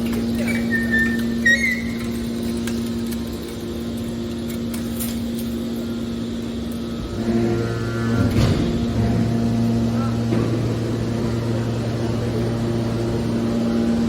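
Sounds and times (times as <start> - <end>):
hydraulic machine hum: 0.0 - 14.0.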